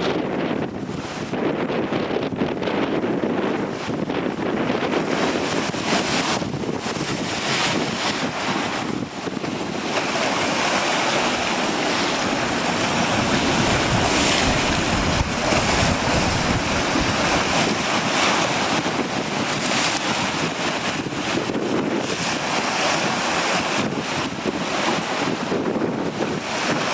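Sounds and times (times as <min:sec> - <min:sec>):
gusty wind buffeting microphone: 0:00.0 - 0:26.9
waves surging: 0:02.6 - 0:26.9.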